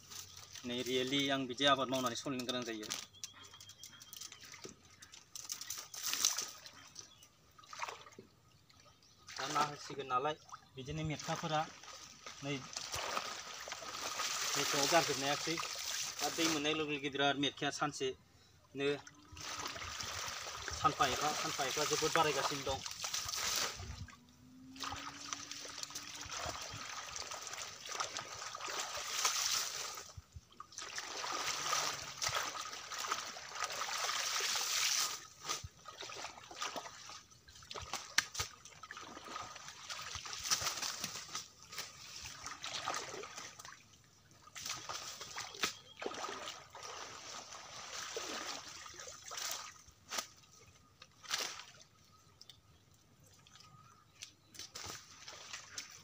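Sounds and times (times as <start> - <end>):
pond water splashing: 4.3 - 17.0, 18.8 - 56.0.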